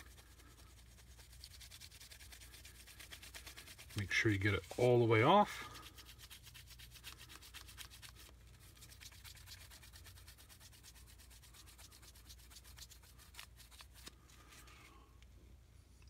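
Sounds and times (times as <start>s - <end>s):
paper towel wiping metal: 0.0s - 14.2s.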